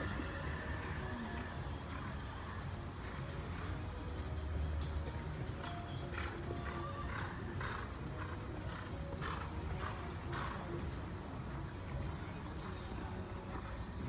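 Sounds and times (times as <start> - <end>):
horse hooves clip-clopping: 0.0 - 14.0
music playing: 0.0 - 14.0.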